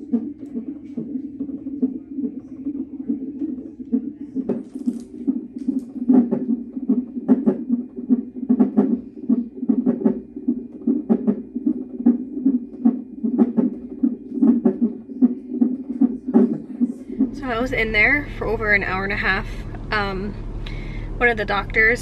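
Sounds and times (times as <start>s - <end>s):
fetal heartbeat pulsing whoosh: 0.0s - 22.0s.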